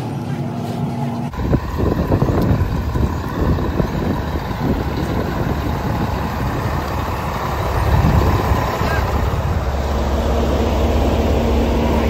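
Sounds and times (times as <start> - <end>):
diesel bus engine idling: 0.0 - 12.0.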